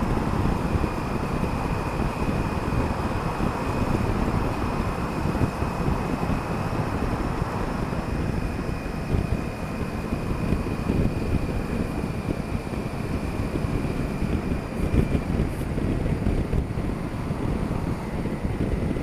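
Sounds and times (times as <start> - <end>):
motorcycle running: 0.0 - 19.0
wind rush on microphone: 0.0 - 19.0.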